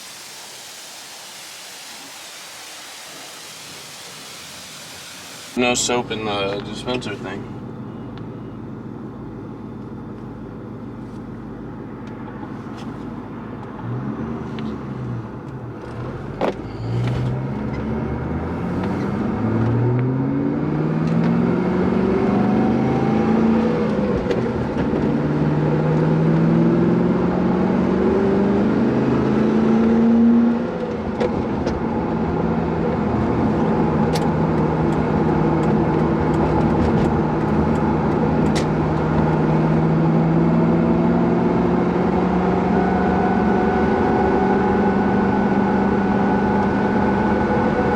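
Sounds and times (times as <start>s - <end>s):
car engine accelerating: 5.5s - 47.9s.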